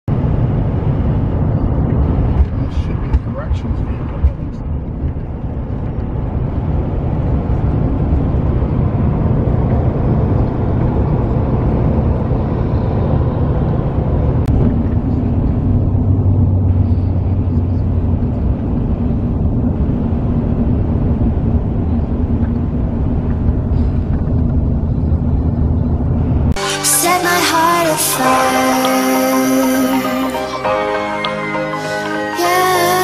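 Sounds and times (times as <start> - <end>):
low engine hum: 0.0 - 33.0
tyre and road rumble: 0.1 - 26.6.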